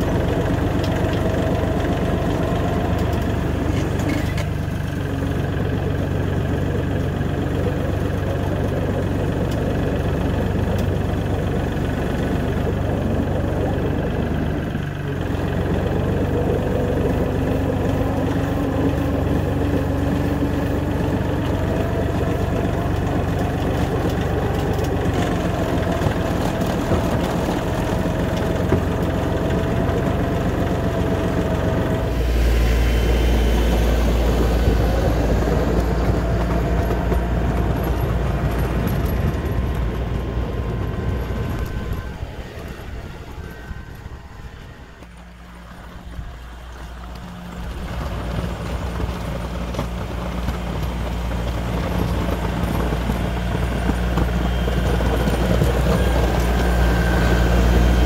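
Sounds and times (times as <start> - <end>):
plow pushing snow: 0.0 - 58.0
steady whine: 0.0 - 58.0
tractor engine running: 0.0 - 58.0.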